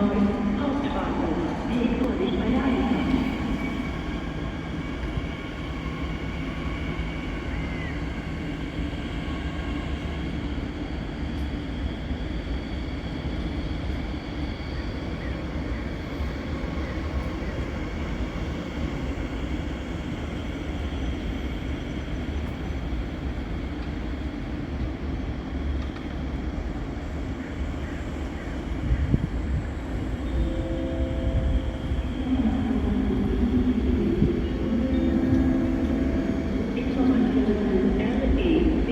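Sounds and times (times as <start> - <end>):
train rumbling and humming: 0.0 - 38.9.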